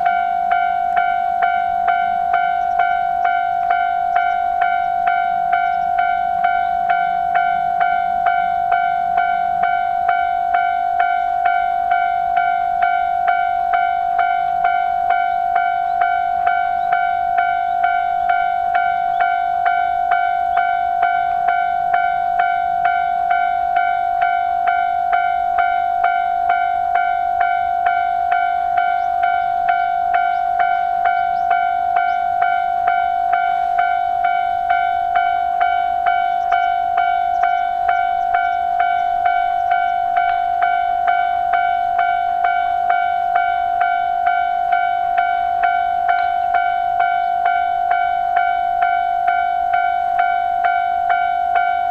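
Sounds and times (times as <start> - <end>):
level-crossing warning bell ringing: 0.0 - 51.9.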